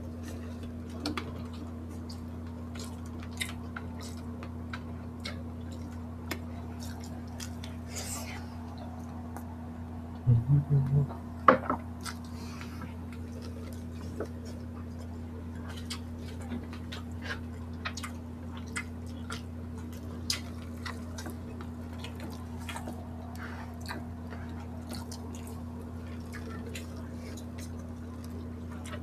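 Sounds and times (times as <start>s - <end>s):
steady low hum: 0.0s - 29.0s
wet chewing clicks and smacks: 0.2s - 7.9s, 12.0s - 29.0s.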